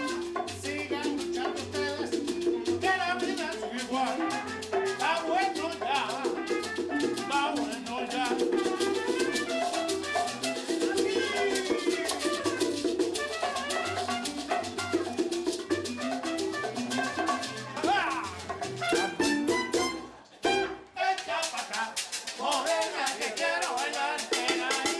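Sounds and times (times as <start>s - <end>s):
live latin dance band: 0.0s - 24.9s.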